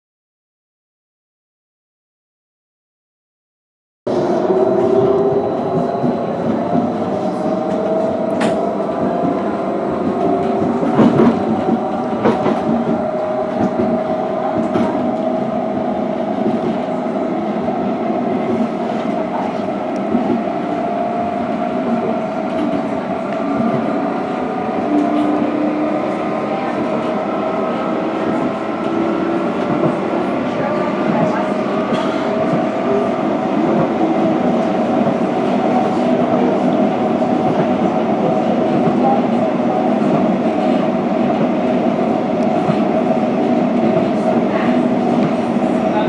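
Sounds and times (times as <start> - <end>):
tram motor whine: 4.1 - 46.0
wheels rumbling on rail: 4.1 - 46.0.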